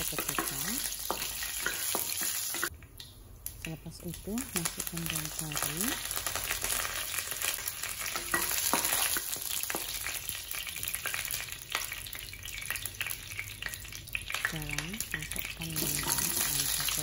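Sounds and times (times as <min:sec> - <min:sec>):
spices sizzling in hot oil: 0:00.0 - 0:02.8, 0:03.4 - 0:17.0.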